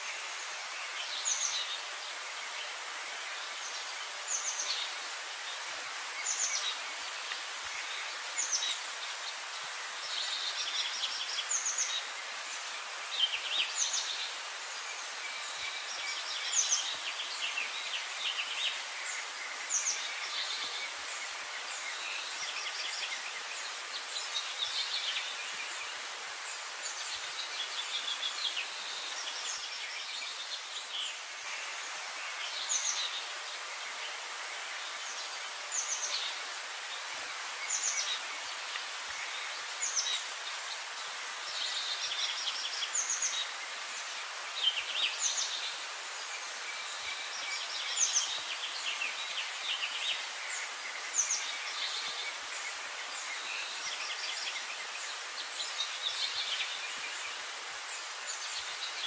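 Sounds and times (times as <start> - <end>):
small birds chirping: 0.0 - 59.0
steady outdoor hiss: 0.0 - 59.0.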